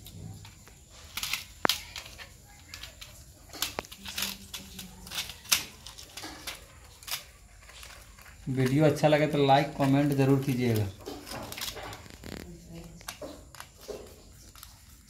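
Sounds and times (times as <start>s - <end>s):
wires clicking and rustling: 0.0s - 15.0s.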